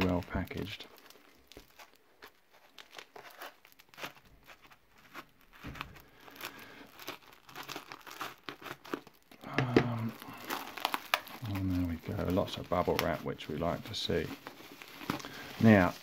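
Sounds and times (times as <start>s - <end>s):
knife tearing plastic and tape: 0.0s - 9.3s, 10.0s - 16.0s.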